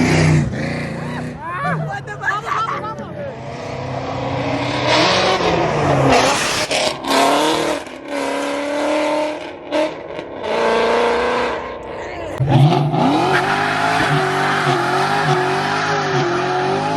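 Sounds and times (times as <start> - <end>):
car engine revving hard: 0.0 - 1.4, 3.3 - 16.9.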